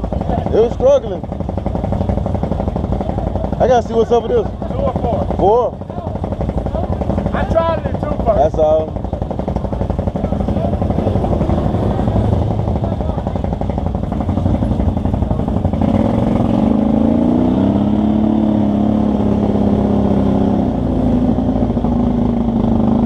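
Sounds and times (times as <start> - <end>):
engine running and revving: 0.0 - 23.0.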